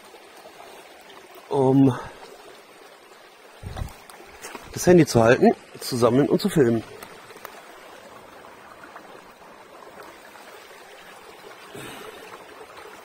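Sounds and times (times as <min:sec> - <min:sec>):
stream trickling over gravel: 0:00.0 - 0:13.0.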